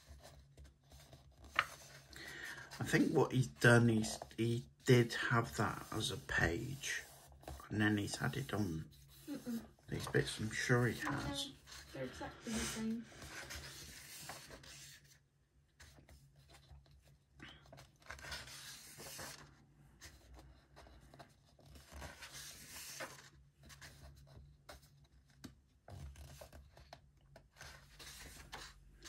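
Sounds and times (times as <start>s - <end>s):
paper pages rustling: 0.0s - 29.0s.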